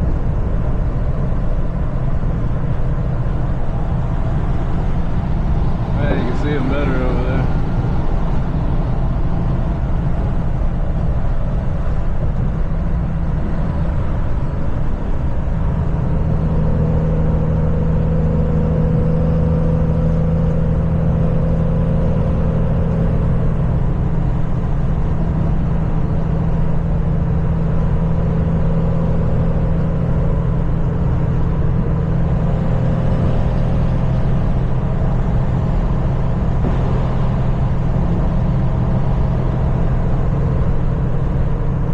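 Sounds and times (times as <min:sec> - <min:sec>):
road noise: 0:00.0 - 0:41.9
truck diesel engine droning: 0:00.0 - 0:41.9.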